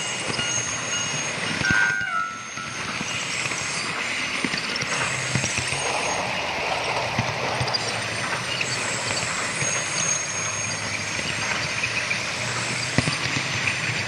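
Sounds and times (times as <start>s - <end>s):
model train running hum: 0.0s - 14.0s
train sound from small speaker: 0.0s - 14.0s
light clicks of wheels: 2.7s - 14.0s.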